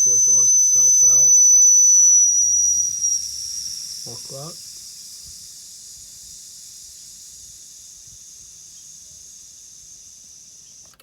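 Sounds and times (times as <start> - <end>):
steam hissing from whistle: 0.0 - 10.8.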